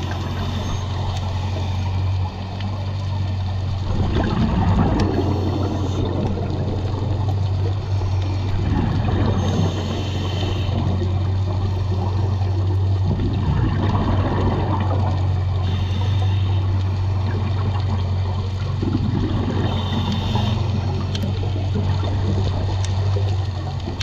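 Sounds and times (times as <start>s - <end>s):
faint clicks: 0.0s - 12.8s, 14.8s - 18.9s, 19.6s - 24.0s
rushing water underwater: 0.0s - 24.0s
steady low hum: 0.0s - 24.0s.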